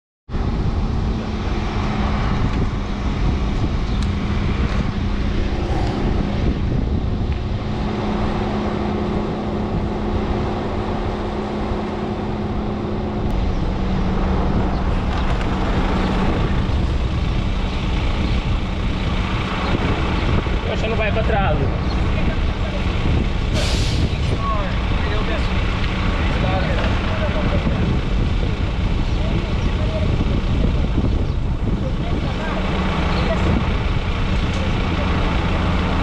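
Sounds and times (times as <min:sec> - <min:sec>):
constant rush of noise: 0:00.3 - 0:36.0
bus engine idling: 0:00.4 - 0:36.0.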